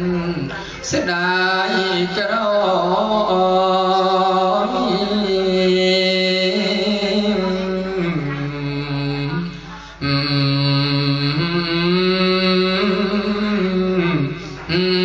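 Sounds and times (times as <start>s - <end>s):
person chanting slow melody: 0.0s - 15.0s.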